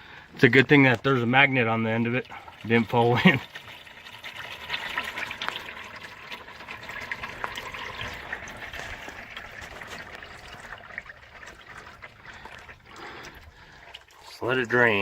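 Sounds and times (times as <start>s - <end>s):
oil pouring in a stream: 0.0s - 15.0s.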